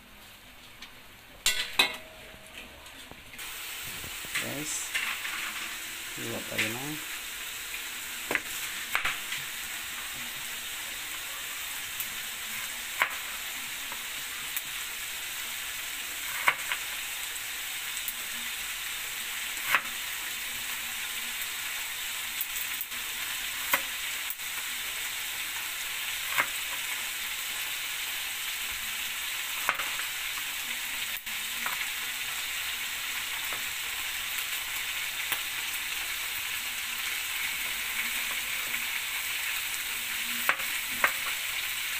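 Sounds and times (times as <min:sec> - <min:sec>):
meat sizzling in a pan: 0:03.4 - 0:41.9.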